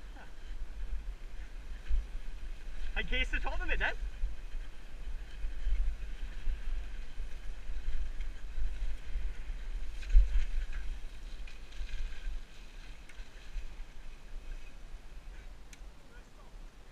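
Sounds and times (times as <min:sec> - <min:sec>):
wind on microphone: 0:00.0 - 0:15.7
bike tyres on rough ground: 0:00.0 - 0:16.1.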